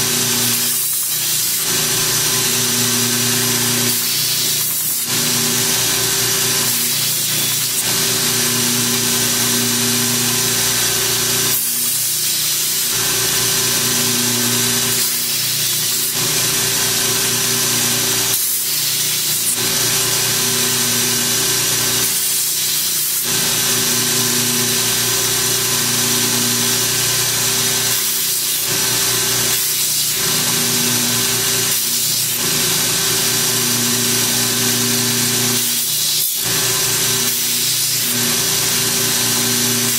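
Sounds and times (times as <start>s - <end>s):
belt grinder grinding metal blade: 0.0s - 39.9s.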